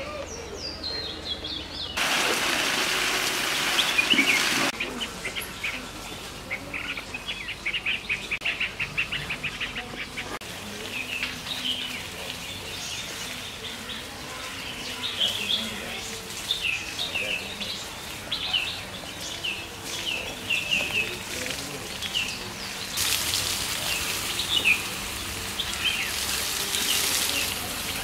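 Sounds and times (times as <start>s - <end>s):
small birds chirping: 3.6s - 23.1s, 23.8s - 28.0s.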